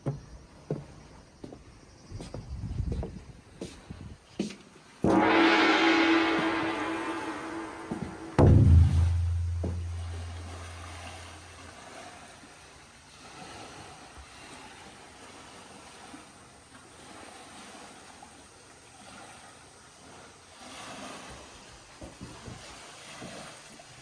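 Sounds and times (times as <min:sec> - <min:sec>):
gentle sea waves washing: 0:03.7 - 0:24.0.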